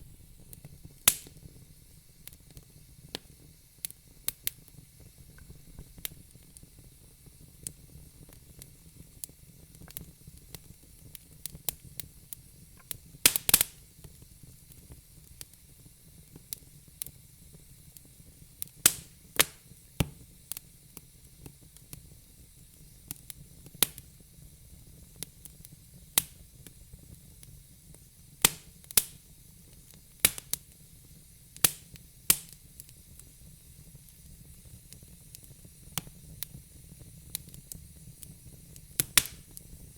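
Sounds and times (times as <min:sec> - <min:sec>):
logs crackling and popping in fire: 0:00.0 - 0:24.2, 0:25.0 - 0:39.9
faint steady hiss: 0:00.0 - 0:39.9.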